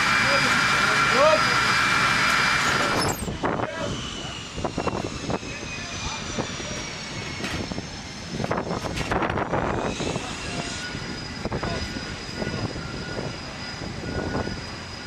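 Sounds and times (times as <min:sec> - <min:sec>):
jet engines whining and rushing: 0:00.0 - 0:15.0.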